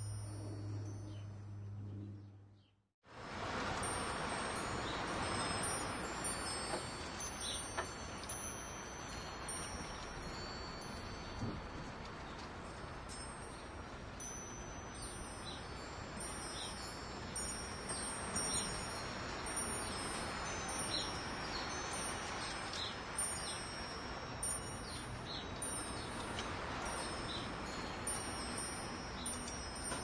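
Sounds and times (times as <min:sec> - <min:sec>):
wind chimes ringing: 0:00.0 - 0:01.8, 0:03.3 - 0:30.0.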